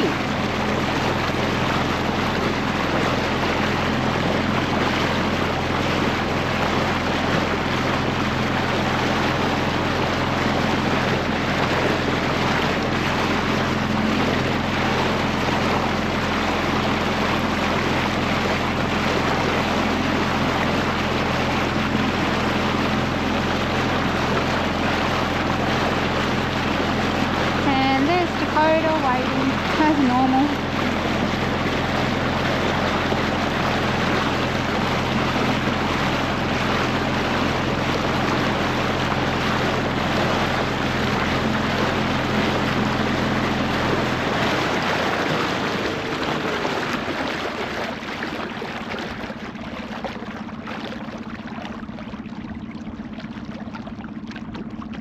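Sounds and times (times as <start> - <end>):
boat engine hum: 0.0 - 55.0
water rushing: 0.0 - 55.0.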